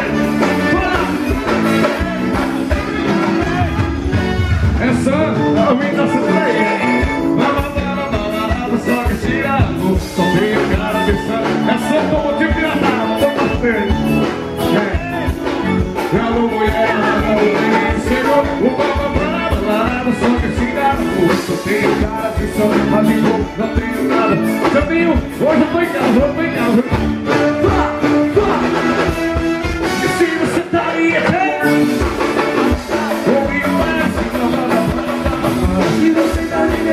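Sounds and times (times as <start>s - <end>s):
live band playing: 0.0s - 36.9s
person singing: 0.0s - 36.9s.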